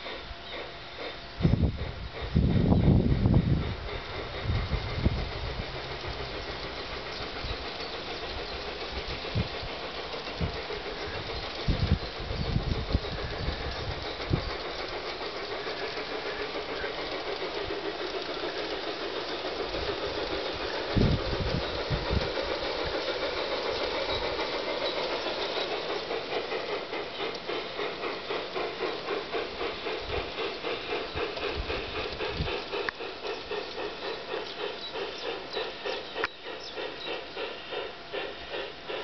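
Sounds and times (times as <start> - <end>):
model locomotives whirring and hissing: 0.0 - 39.0
steam-style chuffing: 0.0 - 39.0.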